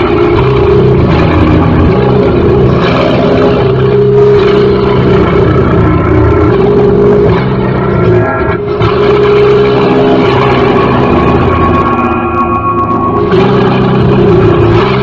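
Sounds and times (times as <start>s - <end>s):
distorted guitar droning: 0.0s - 15.0s.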